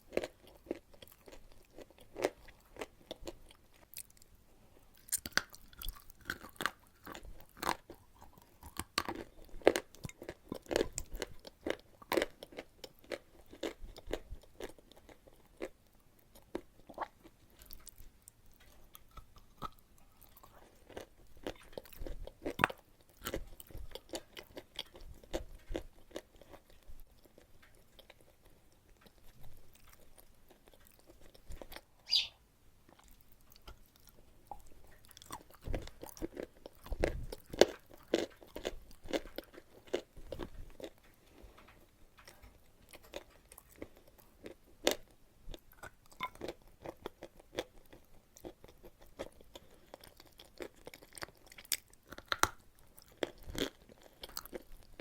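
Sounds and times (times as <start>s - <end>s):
chewing crunchy chalk: 4.9s - 31.9s, 32.9s - 55.0s.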